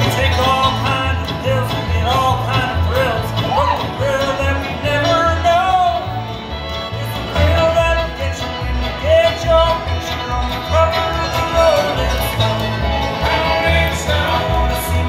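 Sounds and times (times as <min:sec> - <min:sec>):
acoustic guitar: 0:00.0 - 0:15.0
banjo: 0:00.0 - 0:15.0
fiddle: 0:00.0 - 0:15.0
mandolin: 0:00.0 - 0:15.0
person singing: 0:00.0 - 0:15.0
upright bass walking line: 0:00.0 - 0:15.0.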